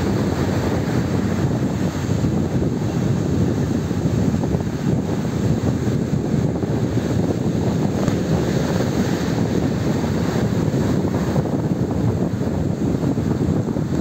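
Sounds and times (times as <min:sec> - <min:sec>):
surf breaking and churning: 0:00.0 - 0:14.0
wind buffeting microphone: 0:00.0 - 0:14.0.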